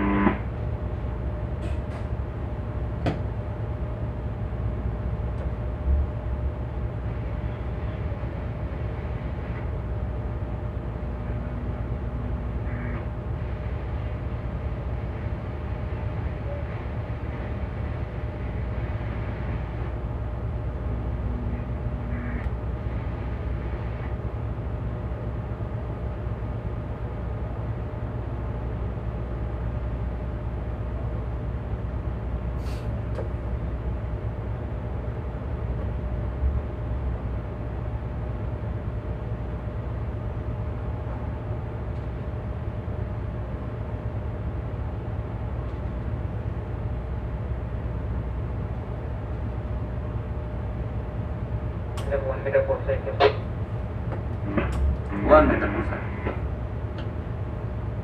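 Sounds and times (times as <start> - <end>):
boat diesel engines droning: 0.0 - 58.0.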